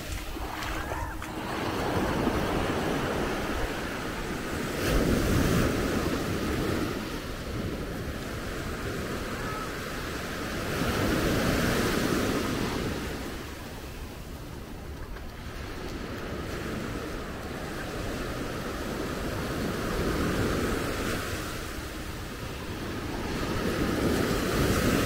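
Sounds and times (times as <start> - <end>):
waves washing up a beach: 0.0 - 25.0.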